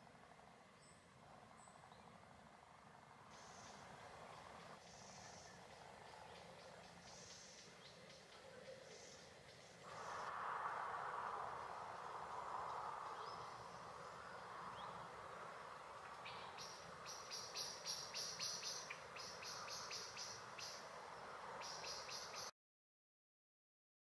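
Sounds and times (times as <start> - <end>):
steady background hiss: 0.0 - 22.5.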